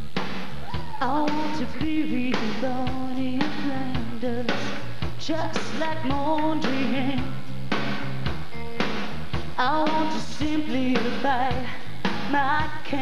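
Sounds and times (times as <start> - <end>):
steady drum beat: 0.0 - 13.0
rock band playing live: 2.4 - 12.9.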